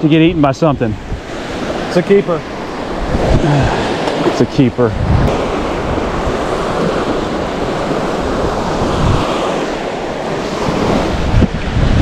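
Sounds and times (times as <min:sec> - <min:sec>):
ocean waves breaking on beach: 0:00.0 - 0:12.0
wind rumbling on microphone: 0:00.0 - 0:12.0.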